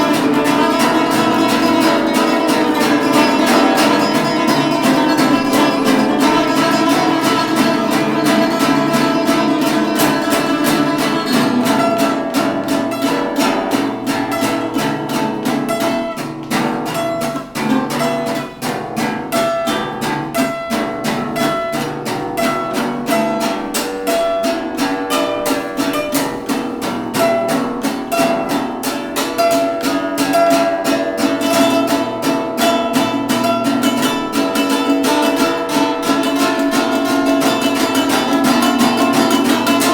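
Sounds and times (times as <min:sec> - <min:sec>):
acoustic guitar strumming: 0:00.0 - 0:39.9
melody of held notes: 0:00.0 - 0:39.9
ukulele strumming: 0:00.0 - 0:39.9.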